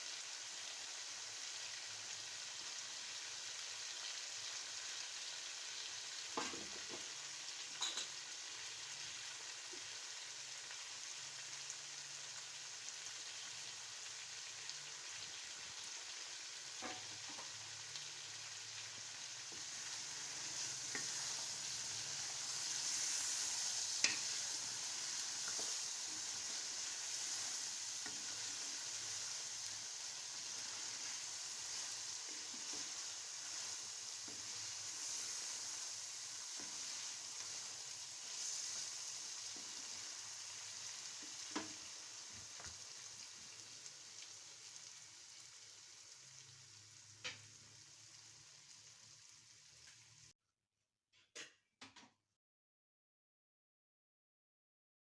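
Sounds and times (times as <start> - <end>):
food sizzling in a pan: 0.0 - 50.4.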